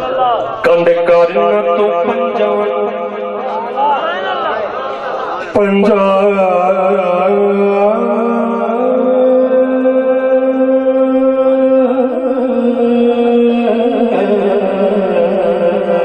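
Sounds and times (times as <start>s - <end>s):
man singing devotional song: 0.6s - 3.8s, 5.4s - 16.0s.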